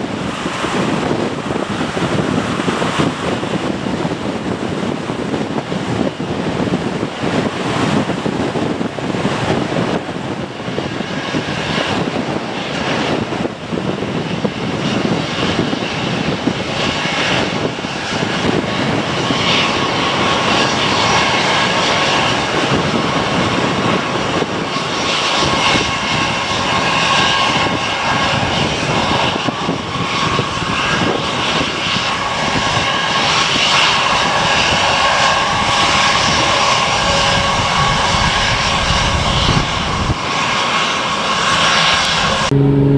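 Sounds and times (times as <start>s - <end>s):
jet engine whine: 0.0s - 42.9s
jet engines roaring: 0.0s - 42.9s.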